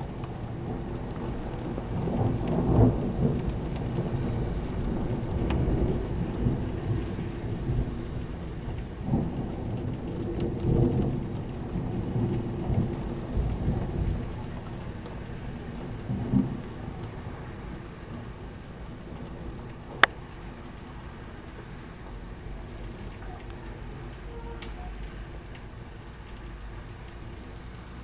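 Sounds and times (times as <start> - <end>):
heavy rain: 0.0 - 28.0
thunder rumbling: 0.0 - 28.0.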